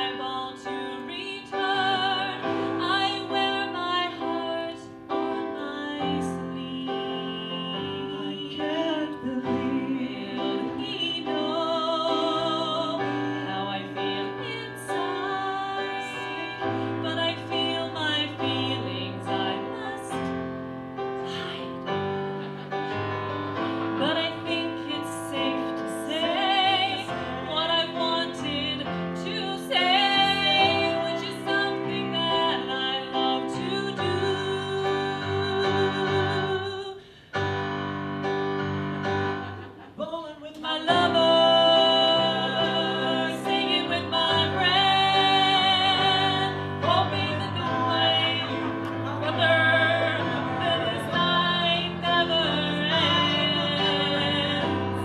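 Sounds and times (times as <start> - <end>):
woman singing: 0.0 - 20.4, 24.0 - 37.1, 39.8 - 55.0
keyboard accompaniment: 0.0 - 55.0.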